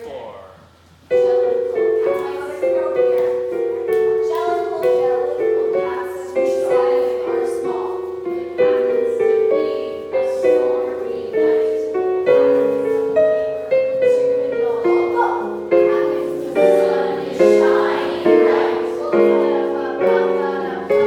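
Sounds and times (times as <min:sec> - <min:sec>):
piano playing chords: 0:00.0 - 0:21.0.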